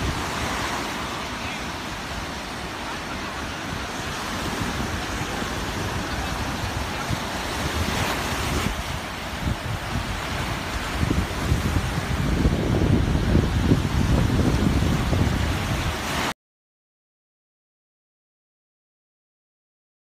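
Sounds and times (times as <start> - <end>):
wind buffeting microphone: 0.0 - 16.3
waves breaking on shore: 0.0 - 16.4.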